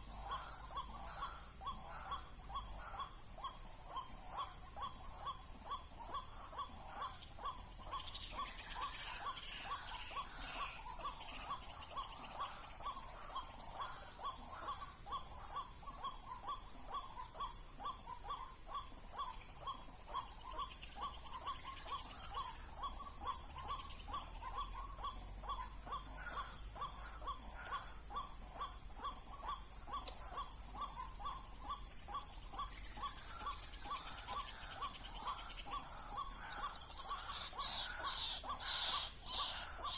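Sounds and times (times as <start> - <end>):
birds twittering: 0.0 - 39.9
insect drone: 0.0 - 39.9
waterhen calling: 0.0 - 39.9.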